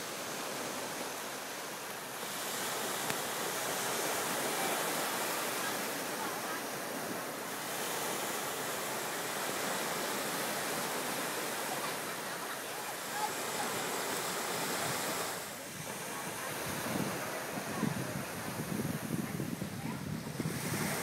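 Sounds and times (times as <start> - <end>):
small waves washing on beach: 0.0 - 21.0.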